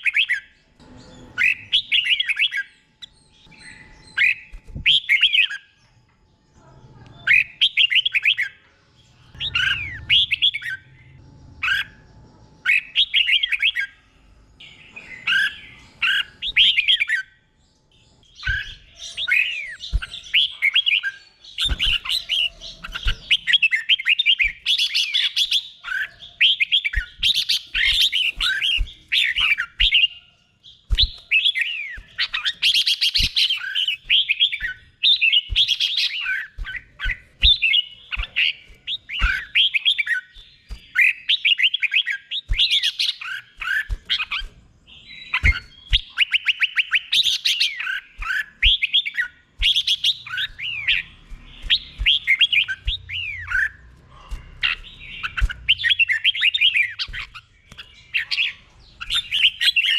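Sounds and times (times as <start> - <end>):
bird singing whistled notes: 0.0 - 6.5, 7.2 - 59.9.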